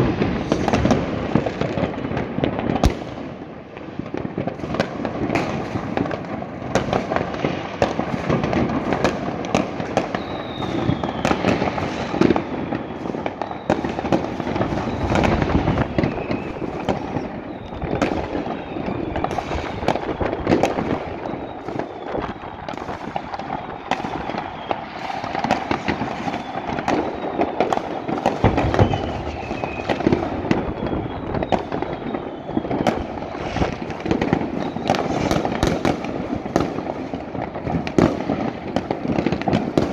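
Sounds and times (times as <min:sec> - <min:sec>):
fireworks bangs and crackles: 0:00.0 - 0:39.9
whistling fireworks: 0:00.0 - 0:39.9.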